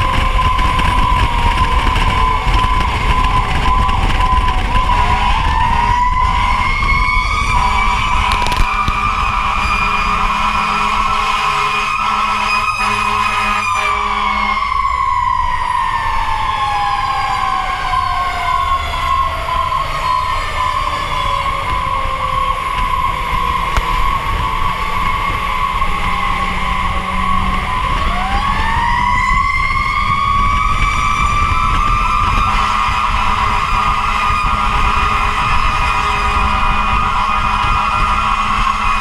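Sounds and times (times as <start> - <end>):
fire engine siren wailing: 0.0 - 39.0
truck engine and road rumble: 0.0 - 39.0.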